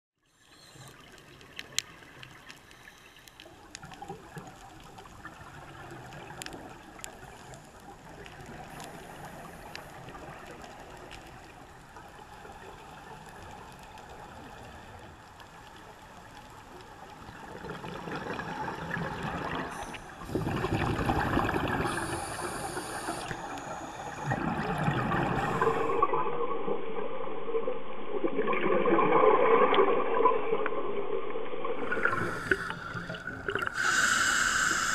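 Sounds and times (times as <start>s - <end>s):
regulator bubbles gurgling: 0.3s - 27.1s, 27.8s - 34.9s
underwater water wash: 0.3s - 34.9s.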